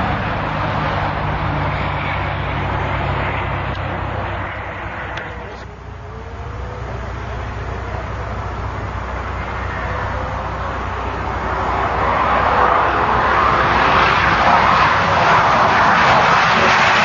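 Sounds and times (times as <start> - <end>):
distant car engines at full throttle: 0.0 - 17.0
rushing noise: 0.0 - 17.0.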